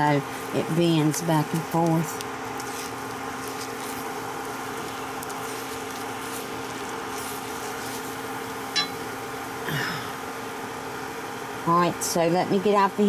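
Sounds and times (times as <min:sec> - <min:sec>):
induction cooktop humming: 0:00.0 - 0:13.0.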